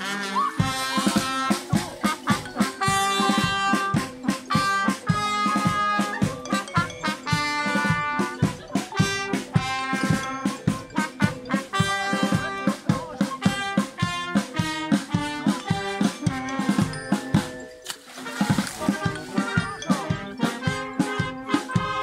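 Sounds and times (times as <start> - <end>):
snare and bass drum beat: 0.0 - 22.0
wind band playing: 0.0 - 22.0.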